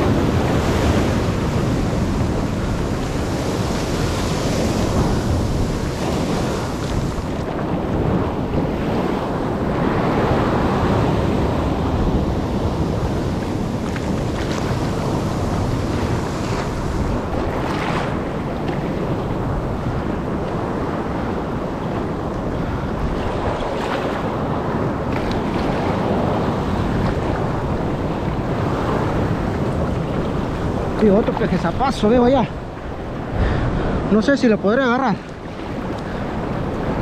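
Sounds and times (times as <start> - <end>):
surf washing over rocks: 0.0 - 37.0
wind buffeting microphone: 0.0 - 37.0.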